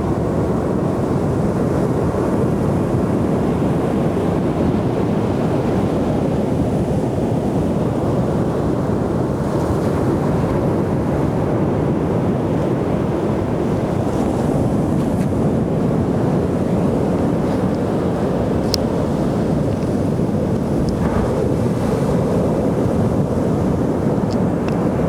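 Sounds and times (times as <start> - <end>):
waves breaking on beach: 0.0 - 25.0.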